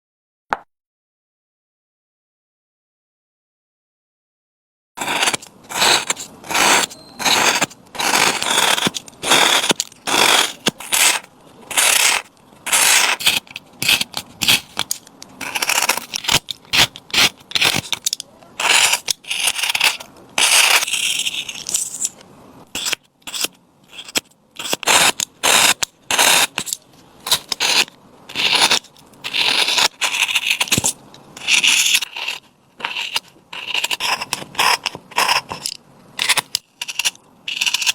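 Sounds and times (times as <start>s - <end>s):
carving tool scraping wood: 5.0s - 37.9s.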